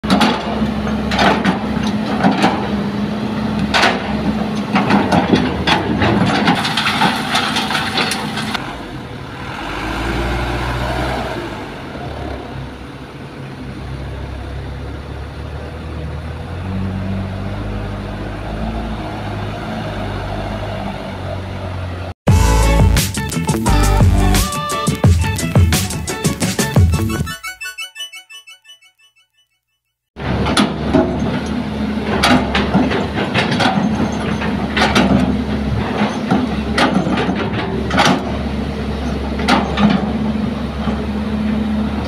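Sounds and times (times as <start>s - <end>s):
dump truck engines running: 0.0s - 27.3s, 30.2s - 42.0s
excavator diesel engine under load: 0.0s - 27.3s, 30.2s - 42.0s.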